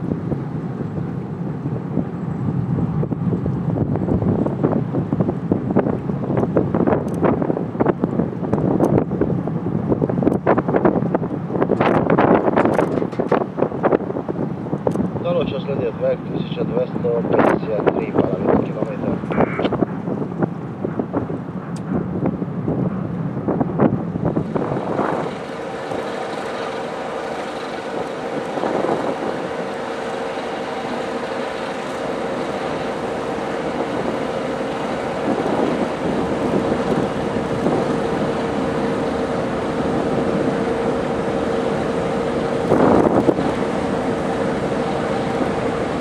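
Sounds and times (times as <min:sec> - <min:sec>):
locomotive hum: 0:00.0 - 0:46.0
train rumbling across steel bridge: 0:00.0 - 0:46.0
wind on microphone: 0:00.0 - 0:46.0.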